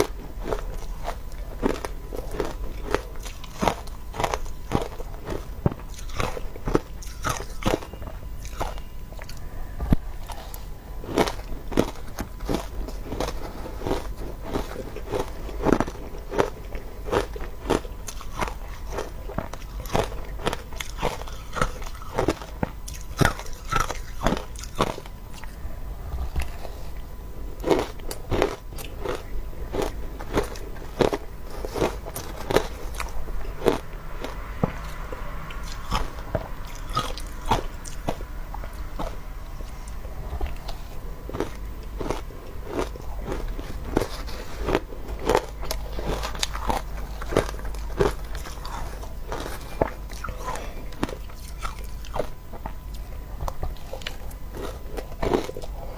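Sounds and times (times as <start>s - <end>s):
chewing crunchy ice: 0.0s - 55.9s.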